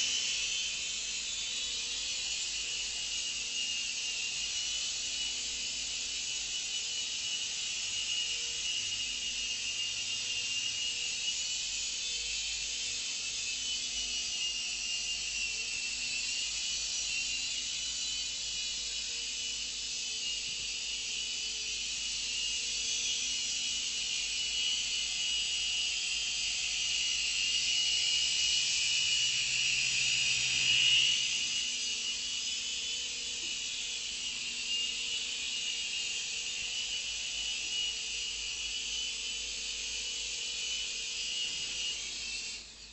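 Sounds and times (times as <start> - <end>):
rc helicopter motor whine: 0.0 - 42.9.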